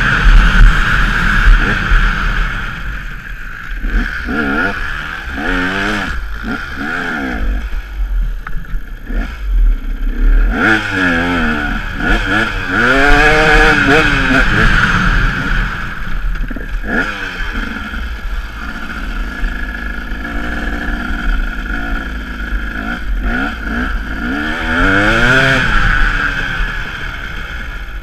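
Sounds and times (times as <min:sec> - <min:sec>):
motorcycle engine revving: 0:00.0 - 0:28.0
steady rushing noise: 0:00.0 - 0:28.0.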